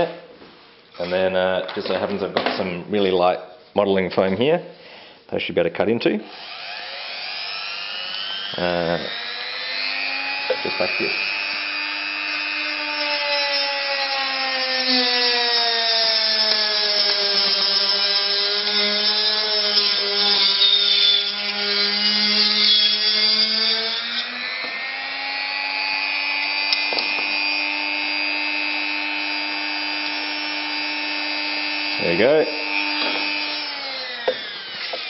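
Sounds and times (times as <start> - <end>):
rotary tool whining: 6.3 - 35.0.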